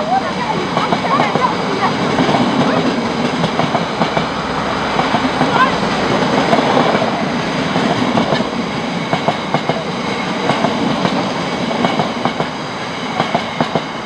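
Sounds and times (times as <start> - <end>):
freight train rumble: 0.0 - 14.0
train wheels clacking on rail joints: 0.0 - 14.0.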